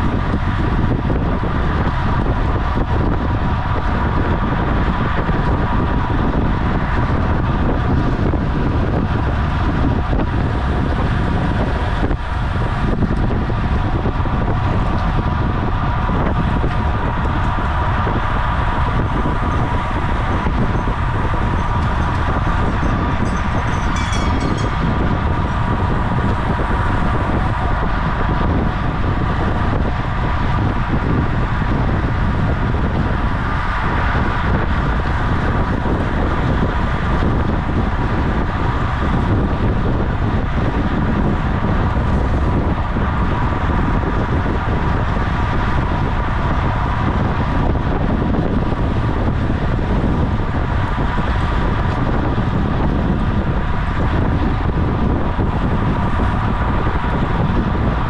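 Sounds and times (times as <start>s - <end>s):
bike hum: 0.0s - 58.0s
wind rushing on microphone: 0.0s - 58.0s.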